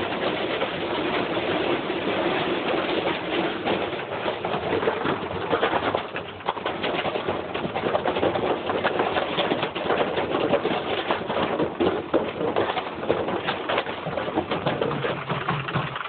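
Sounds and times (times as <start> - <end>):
metal rattling in washing machine: 0.0 - 16.0
washing machine rumble: 0.0 - 16.0.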